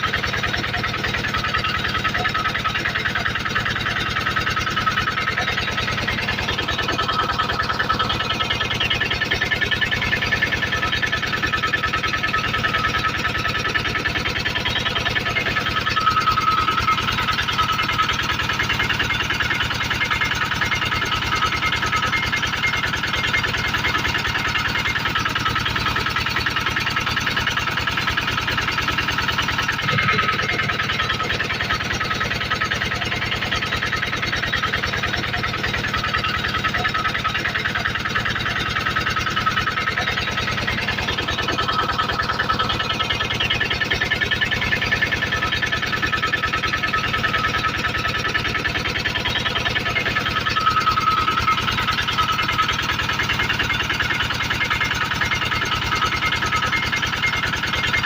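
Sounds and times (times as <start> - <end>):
generator engine running: 0.0 - 58.0.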